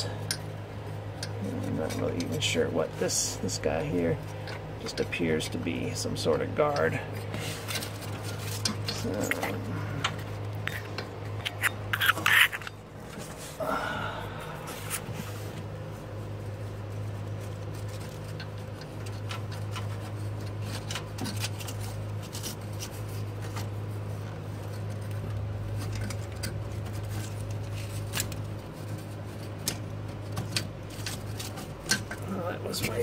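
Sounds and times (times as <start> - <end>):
clicks and scrapes of parts: 0.0 - 13.6, 16.5 - 33.0
steady low hum: 0.0 - 33.0.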